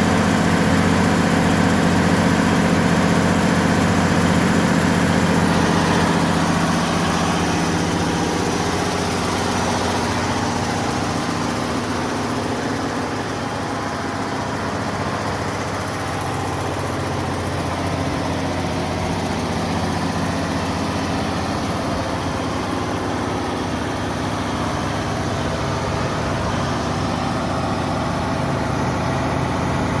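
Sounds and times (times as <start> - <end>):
generator engine idling: 0.0 - 30.0.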